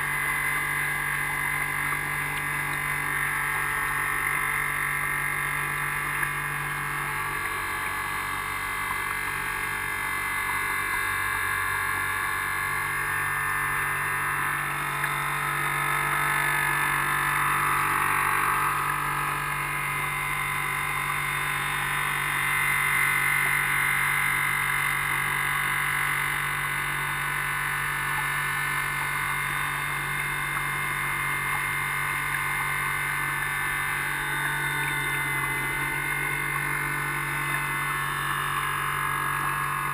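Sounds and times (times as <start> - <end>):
electric boat motors whining: 0.0 - 39.9.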